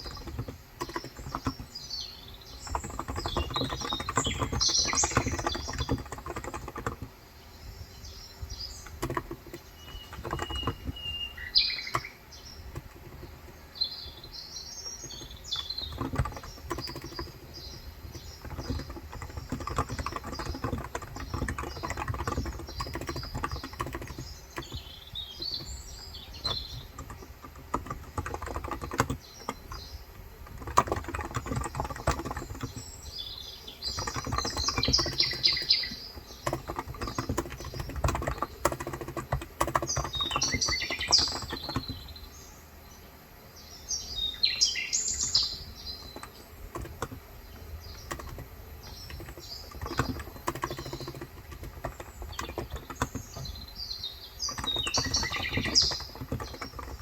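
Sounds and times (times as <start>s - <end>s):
keyboard typing: 0.0s - 7.2s, 8.4s - 42.3s, 45.3s - 57.0s
birds chirping: 0.0s - 57.0s.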